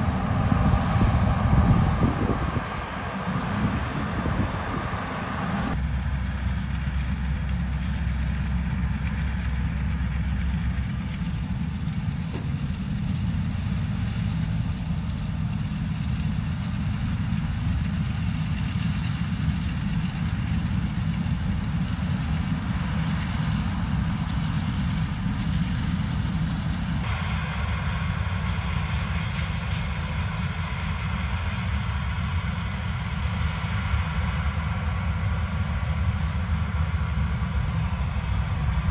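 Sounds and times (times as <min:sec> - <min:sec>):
diesel farm machinery running: 0:00.0 - 0:38.9.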